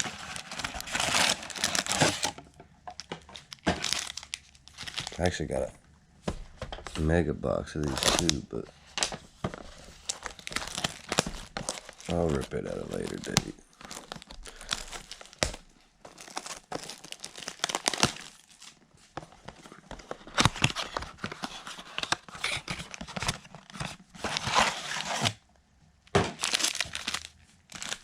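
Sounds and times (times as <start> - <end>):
cardboard ripping and crinkling: 0.0 - 2.4, 3.5 - 5.3, 7.8 - 18.8, 19.6 - 25.4, 26.2 - 28.0.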